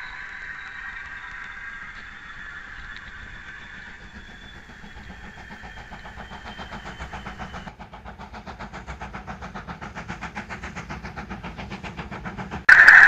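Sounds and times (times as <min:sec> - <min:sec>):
wheels clicking on rails: 0:00.0 - 0:13.0.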